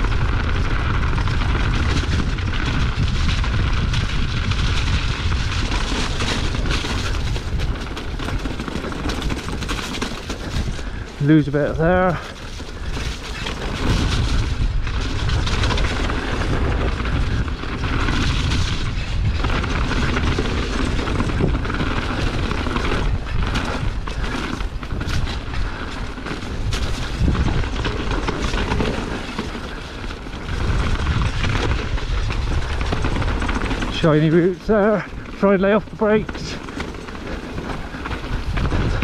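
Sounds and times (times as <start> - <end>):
bike rattling over stones: 0.0 - 39.0
bike tyres rumbling: 0.0 - 39.0
wind buffeting microphone: 0.0 - 39.0.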